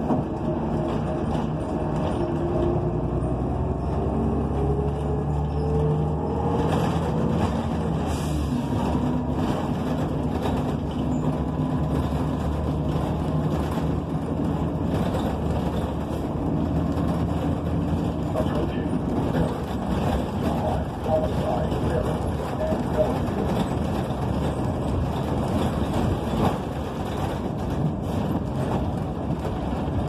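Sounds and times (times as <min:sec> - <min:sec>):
bus engine whine: 0:00.0 - 0:30.0
road noise: 0:00.0 - 0:30.0.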